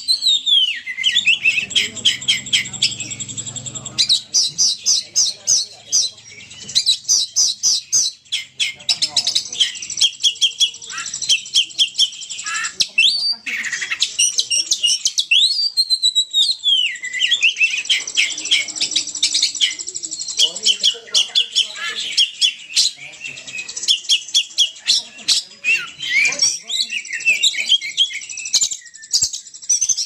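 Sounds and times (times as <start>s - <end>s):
bird chirping and whistling: 0.0s - 30.0s.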